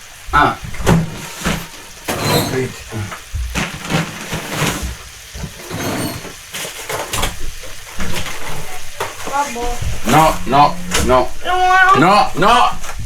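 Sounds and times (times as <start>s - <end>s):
utensil scraping a pan: 0.7s - 13.0s.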